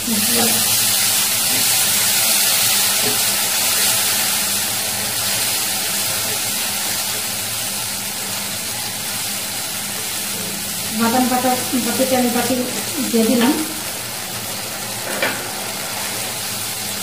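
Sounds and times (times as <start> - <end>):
wok sizzling and hissing: 0.0 - 17.0.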